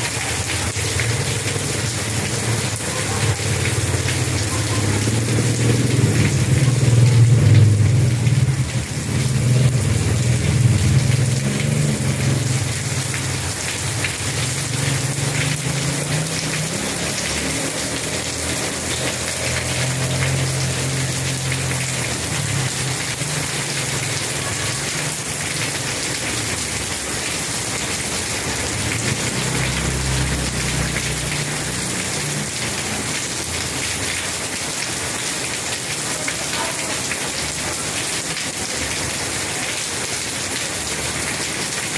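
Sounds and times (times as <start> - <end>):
steady rain pattering: 0.0 - 41.9.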